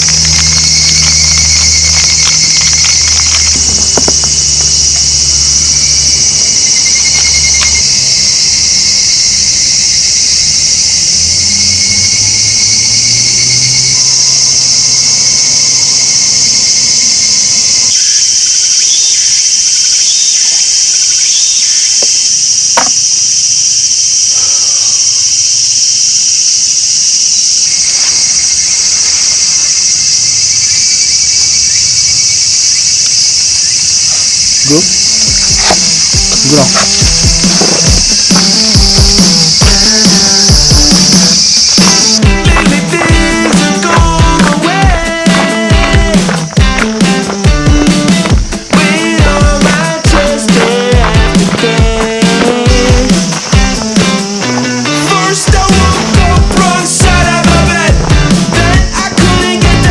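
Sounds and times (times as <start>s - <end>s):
insects buzzing: 0.0s - 59.9s.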